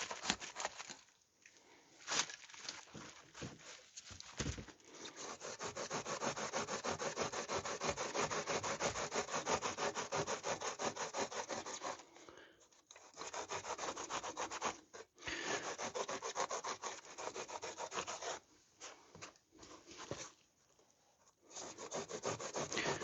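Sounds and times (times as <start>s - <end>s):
hand tool scraping foam: 0.0s - 1.0s, 2.9s - 20.4s, 21.4s - 23.0s.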